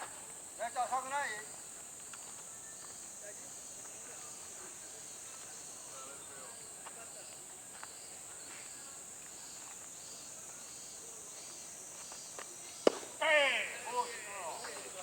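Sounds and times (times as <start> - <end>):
faint distant voices: 0.0 - 15.0.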